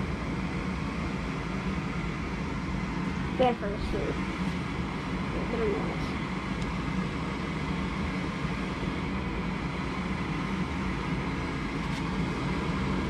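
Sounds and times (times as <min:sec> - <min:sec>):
furnace motor humming: 0:00.0 - 0:13.0.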